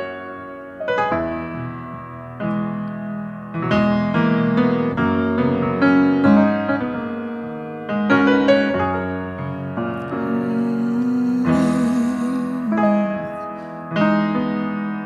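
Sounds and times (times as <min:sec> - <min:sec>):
piano chords ringing: 0:00.0 - 0:15.0.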